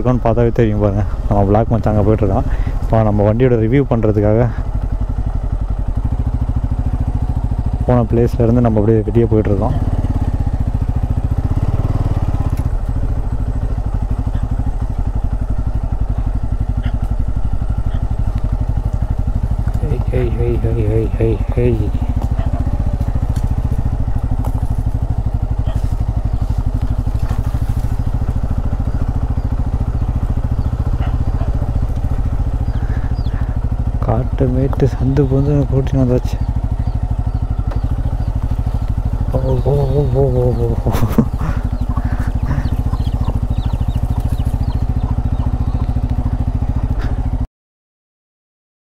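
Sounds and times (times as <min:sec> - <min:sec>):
motorcycle engine running: 0:00.0 - 0:47.5.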